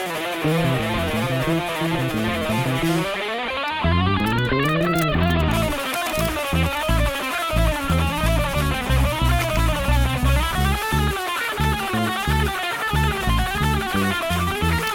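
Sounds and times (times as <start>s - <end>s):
guitar: 0.0s - 14.9s
bass: 0.4s - 3.1s, 3.8s - 14.9s.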